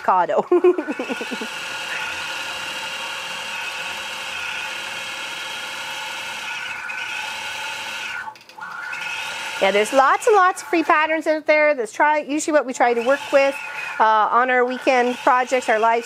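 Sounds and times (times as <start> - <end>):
quilting machine motor whine: 0.7 - 11.5, 12.7 - 16.0.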